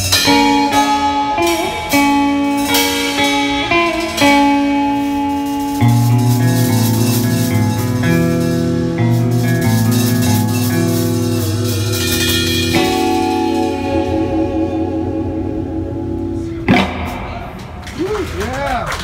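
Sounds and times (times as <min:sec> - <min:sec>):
electric guitar chords: 0:00.0 - 0:18.4
drums: 0:00.0 - 0:19.0.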